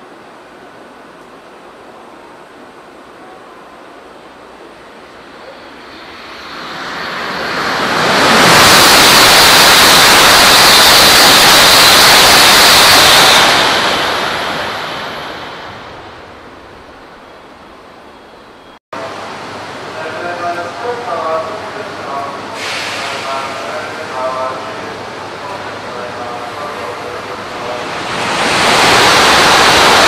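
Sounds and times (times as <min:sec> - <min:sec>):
high-speed train rushing past: 0:00.0 - 0:30.0.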